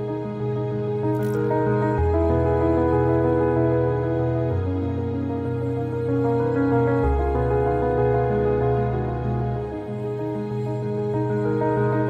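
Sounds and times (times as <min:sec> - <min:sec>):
slow sustained music chords: 0:00.0 - 0:12.0.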